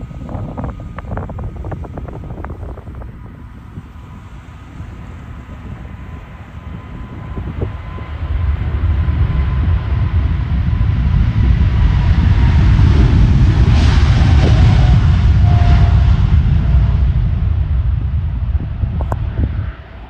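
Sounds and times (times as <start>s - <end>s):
faint falling jet whine: 0.0s - 20.0s
jet engine deep rumble: 0.0s - 20.0s.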